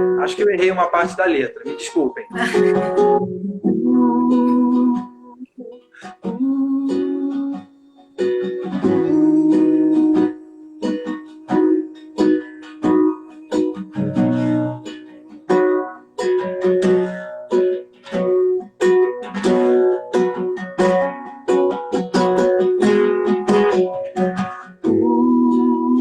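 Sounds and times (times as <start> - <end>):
acoustic string instrument strummed: 0.0 - 26.0.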